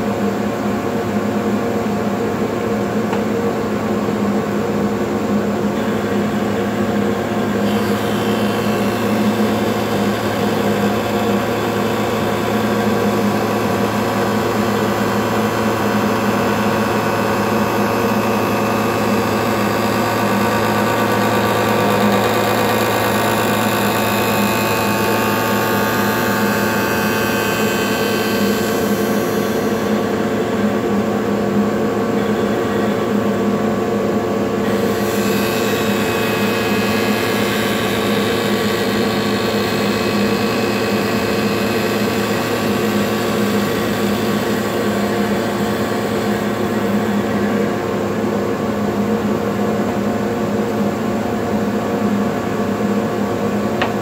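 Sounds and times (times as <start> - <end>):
spindle shaper machine hum: 0.0 - 54.0.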